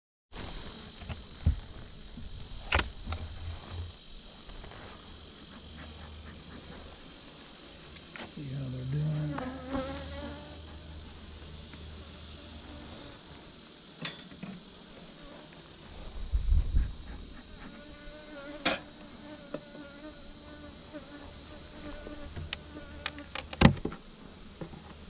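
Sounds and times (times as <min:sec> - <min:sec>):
insect buzzing: 0:00.4 - 0:25.0.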